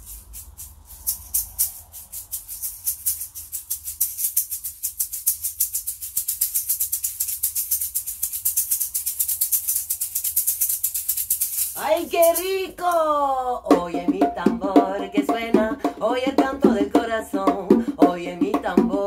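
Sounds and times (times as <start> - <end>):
maracas shaking: 0.0 - 19.0.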